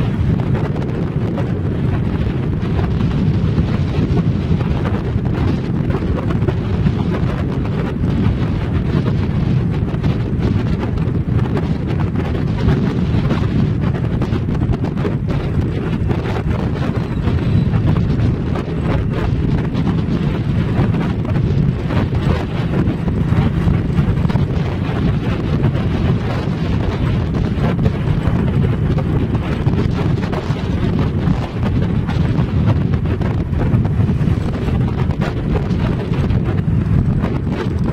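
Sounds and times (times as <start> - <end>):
vehicle rumble at speed: 0.0 - 37.9
wind buffeting microphone: 0.0 - 37.9.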